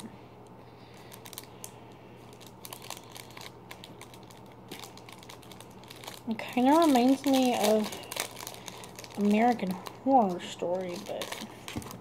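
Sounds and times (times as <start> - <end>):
package clicks and crinkles: 0.9 - 12.0.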